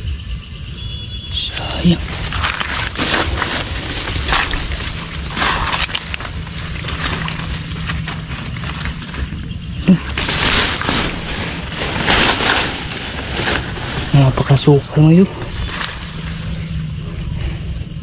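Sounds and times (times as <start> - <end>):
leaves and stems rustling: 1.3 - 18.0.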